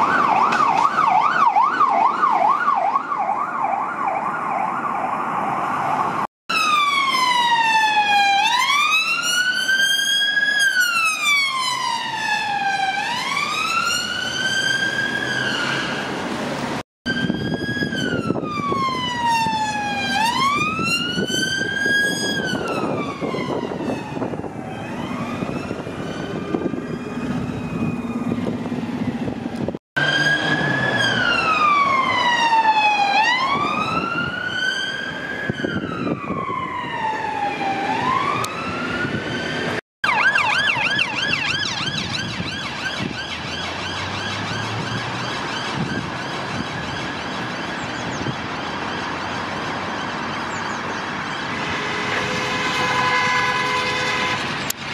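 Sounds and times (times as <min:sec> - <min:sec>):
siren fast yelp: 0:00.0 - 0:16.0, 0:17.1 - 0:29.3, 0:30.0 - 0:51.6
emergency vehicle siren wailing: 0:00.0 - 0:54.9
traffic noise: 0:00.0 - 0:54.9.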